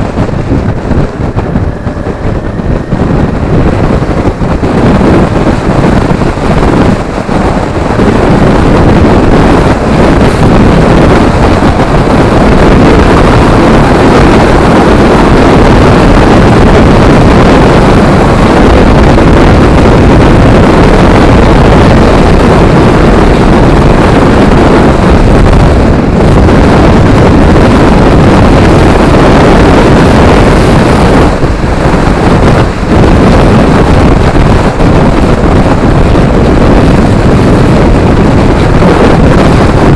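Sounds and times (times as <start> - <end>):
motorcycle engine running: 0.0 - 39.9
road noise: 0.0 - 39.9
wind buffeting microphone: 0.0 - 39.9.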